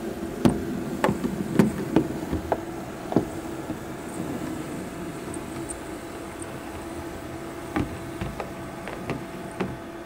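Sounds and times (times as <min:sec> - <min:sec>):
model locomotive motor hum: 0:00.0 - 0:10.0
wheels rolling on rails: 0:00.0 - 0:10.0.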